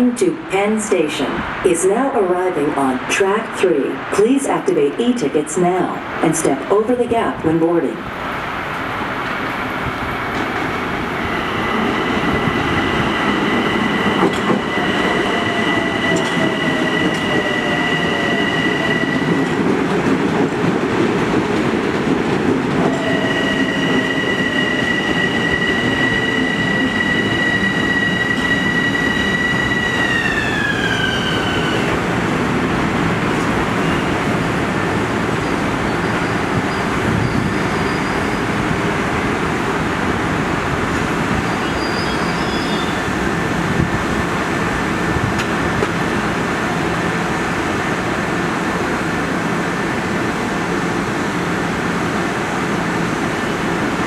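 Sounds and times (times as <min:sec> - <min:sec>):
high steady train whine: 0:00.0 - 0:54.0
train wheels rumbling: 0:08.1 - 0:54.0.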